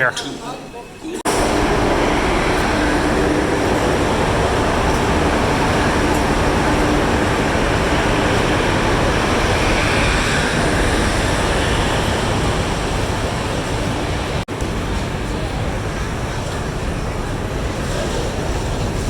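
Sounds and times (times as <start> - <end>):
train rumbling: 0.6 - 19.0.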